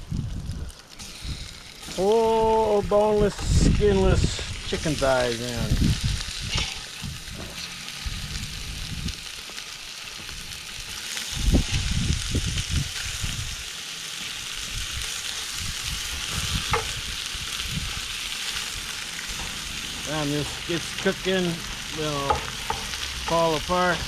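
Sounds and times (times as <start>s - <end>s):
meat sizzling in a pot: 0.0s - 24.0s.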